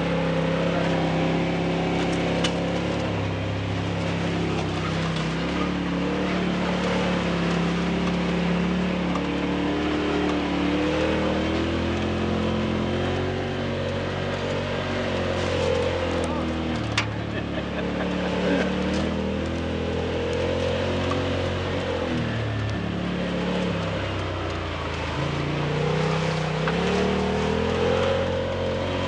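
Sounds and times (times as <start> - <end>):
off-road vehicle engine running: 0.0 - 29.0.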